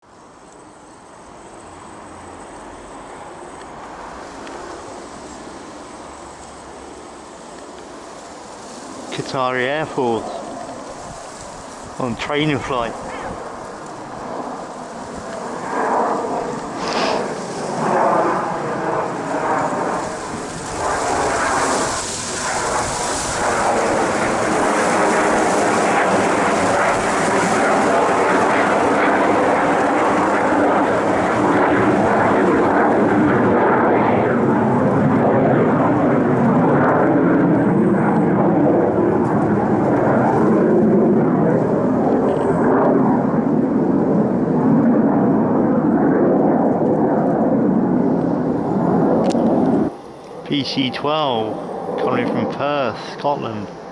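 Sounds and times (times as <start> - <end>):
airplane engines passing: 0.1 - 53.9.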